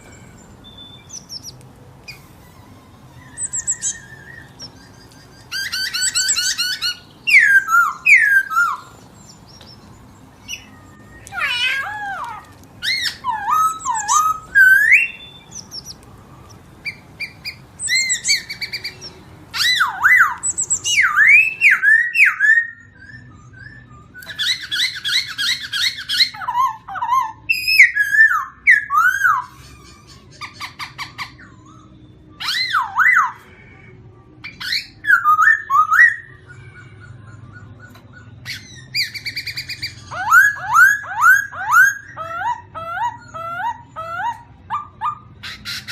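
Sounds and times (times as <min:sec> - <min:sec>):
songbird singing: 0:00.0 - 0:45.9.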